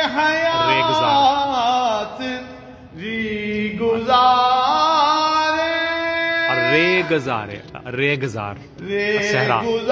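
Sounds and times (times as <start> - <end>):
man chanting devotional poem: 0.0 - 9.9.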